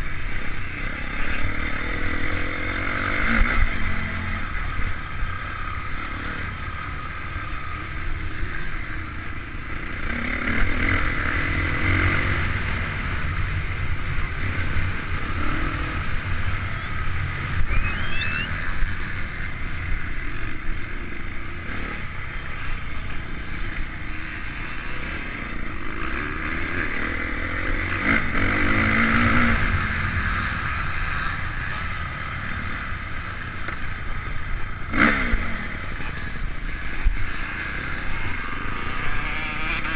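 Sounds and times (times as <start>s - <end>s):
motocross bike engine revving: 0.2s - 39.9s.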